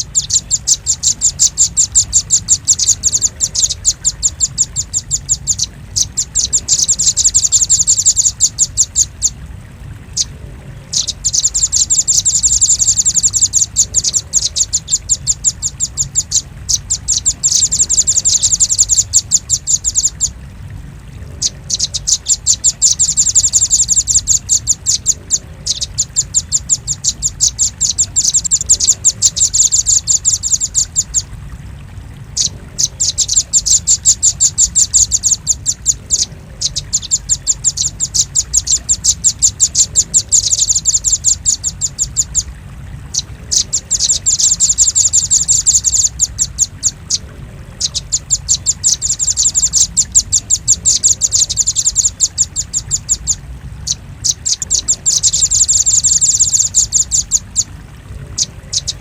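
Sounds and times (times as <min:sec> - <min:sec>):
bird chirping rapidly: 0:00.0 - 0:09.4, 0:10.1 - 0:20.4, 0:21.2 - 0:31.3, 0:32.3 - 0:42.5, 0:43.1 - 0:59.0
low steady hum: 0:00.0 - 0:59.0.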